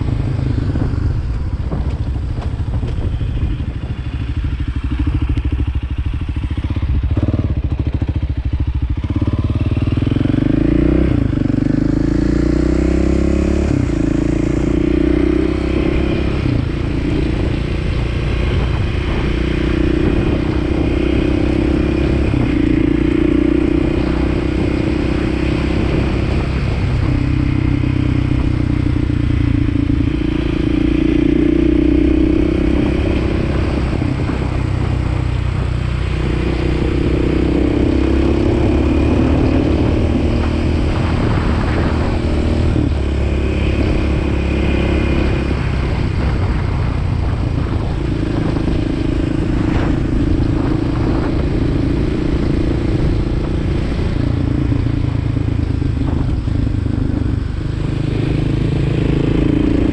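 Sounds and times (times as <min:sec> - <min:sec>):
motorcycle engine: 0:00.0 - 0:59.9
wind buffeting microphone: 0:00.0 - 0:59.9.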